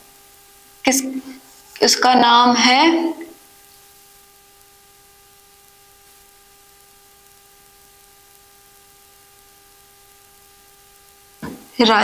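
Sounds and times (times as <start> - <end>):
constant electrical whine: 0.0 - 12.0
faint steady hiss: 0.0 - 12.0.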